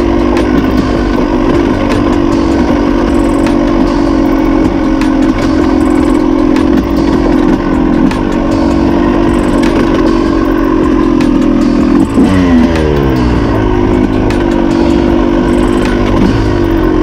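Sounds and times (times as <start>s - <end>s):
dirt bike engine running hard: 0.0s - 17.0s.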